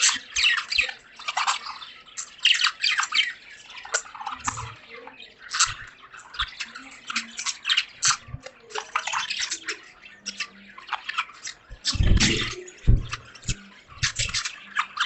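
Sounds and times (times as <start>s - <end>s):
budgerigars chattering: 0.0s - 15.0s.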